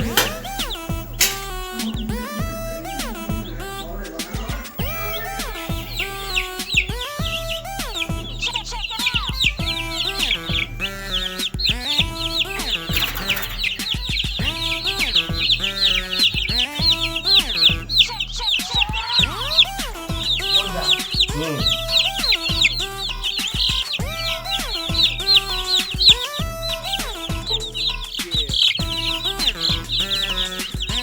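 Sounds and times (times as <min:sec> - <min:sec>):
background music: 0:00.0 - 0:31.0
chickens peeping and clucking: 0:00.0 - 0:31.0.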